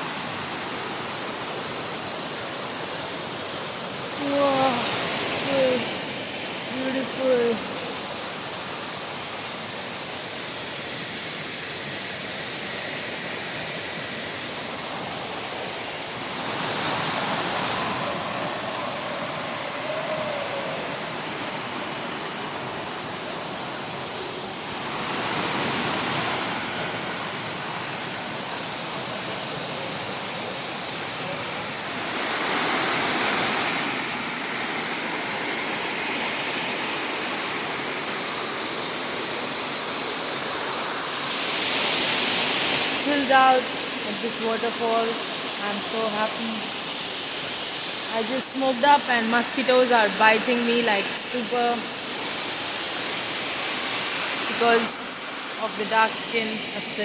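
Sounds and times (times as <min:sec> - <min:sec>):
waterfall pouring: 0:00.0 - 0:57.0.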